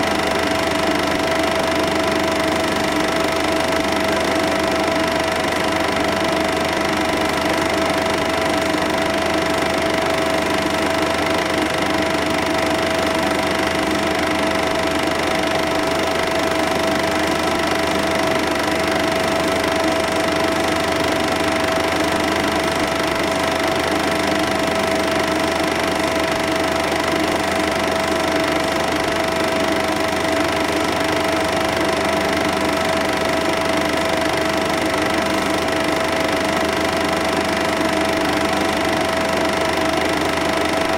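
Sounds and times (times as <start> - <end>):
film projector whirring and clattering: 0.0 - 40.9.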